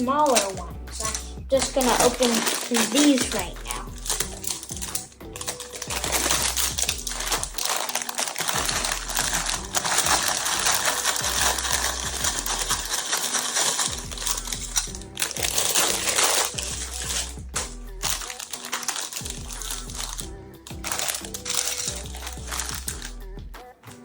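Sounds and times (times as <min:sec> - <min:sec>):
plastic bags tearing and crinkling: 0:00.0 - 0:23.2
background music: 0:00.0 - 0:24.0
plastic bricks clicking: 0:00.1 - 0:23.1.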